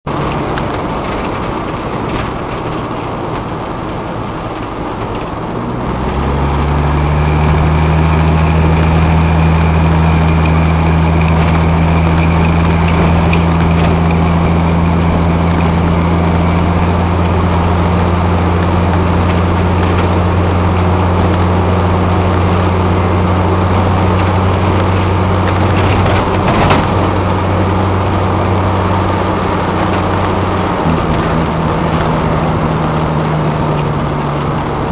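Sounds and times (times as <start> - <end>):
truck engine running: 0.0 - 34.9
wind and road noise: 0.0 - 34.9.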